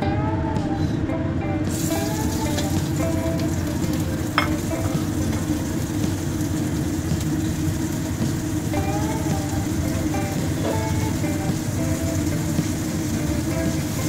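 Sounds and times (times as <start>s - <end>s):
fish sizzling in hot oil: 1.7s - 14.0s.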